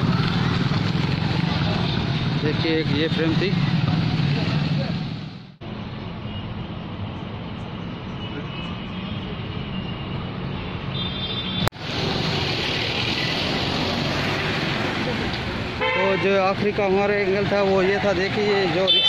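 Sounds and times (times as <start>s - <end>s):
street traffic hum: 0.0s - 19.0s.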